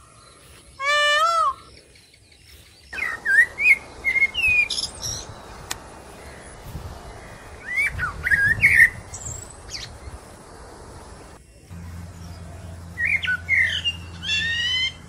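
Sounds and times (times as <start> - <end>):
birds chirping and calling: 0.0 - 15.0
steady outdoor hiss: 0.0 - 15.0.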